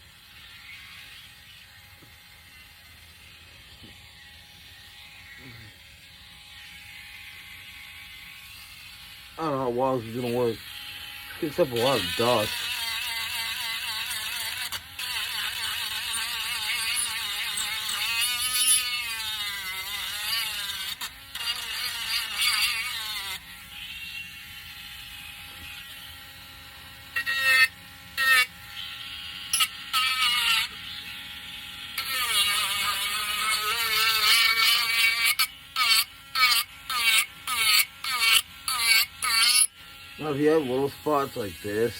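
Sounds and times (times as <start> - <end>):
electric sander on wood: 0.0 - 41.9.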